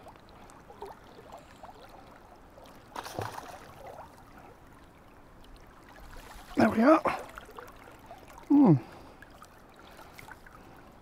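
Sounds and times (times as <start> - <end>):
river water gurgling: 0.0 - 11.0.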